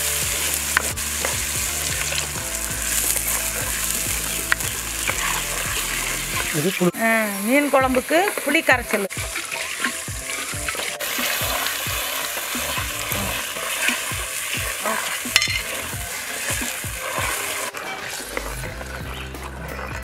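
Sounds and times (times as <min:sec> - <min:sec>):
gravy sizzling and bubbling: 0:00.0 - 0:20.0.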